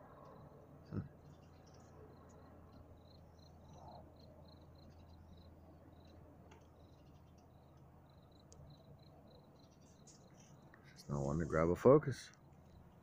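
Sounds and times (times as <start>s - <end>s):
faint cricket chirping: 0.0s - 13.0s
low steady hum: 0.0s - 13.0s.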